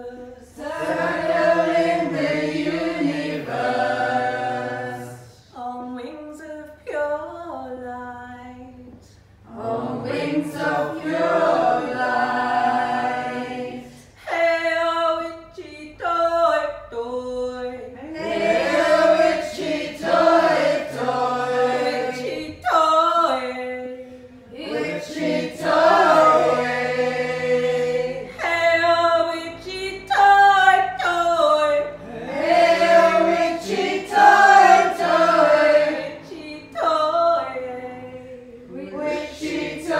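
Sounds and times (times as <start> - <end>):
group of voices singing: 0.0 - 5.5, 9.4 - 15.5, 17.6 - 39.9.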